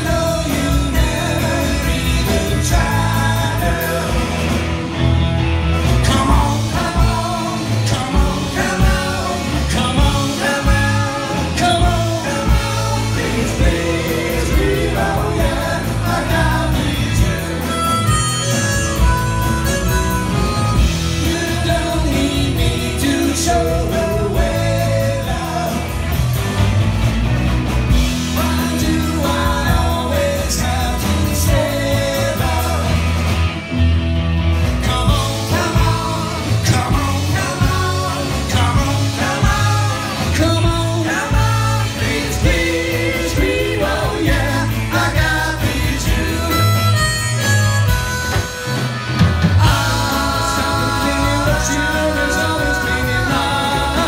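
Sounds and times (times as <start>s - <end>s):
singer's vocals: 0.0s - 4.8s, 5.9s - 26.4s, 28.1s - 33.5s, 34.6s - 47.5s, 49.5s - 54.0s
drums: 0.0s - 54.0s
electric guitars: 0.0s - 54.0s.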